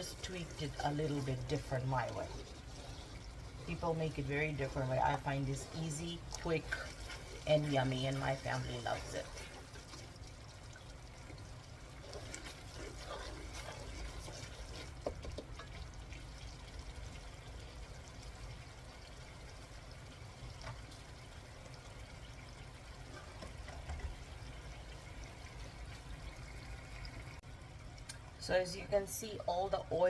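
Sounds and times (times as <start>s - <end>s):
paste simmering and bubbling in a pan: 0.0s - 28.4s.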